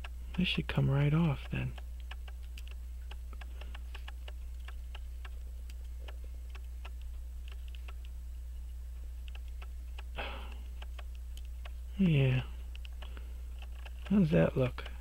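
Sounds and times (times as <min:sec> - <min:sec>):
light rapid ticking: 0:00.0 - 0:15.0
steady low hum: 0:00.0 - 0:15.0.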